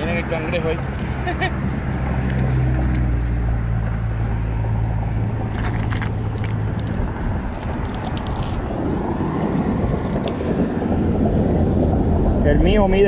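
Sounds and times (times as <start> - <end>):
low engine hum: 0.0 - 13.0
outdoor background noise: 0.0 - 13.0.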